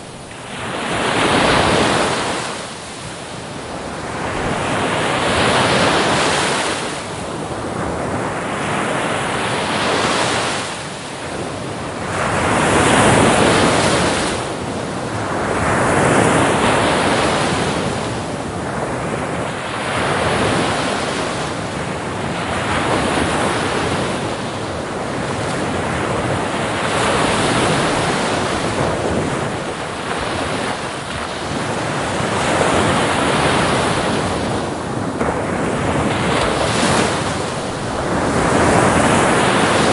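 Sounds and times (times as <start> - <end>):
sea waves breaking on shore: 0.0 - 39.9
wind on microphone: 0.0 - 39.9.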